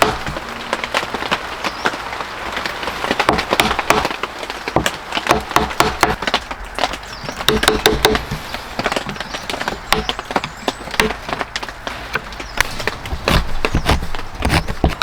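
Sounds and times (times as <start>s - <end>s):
hand tools knocking and scraping wood: 0.0s - 2.0s, 2.6s - 15.0s.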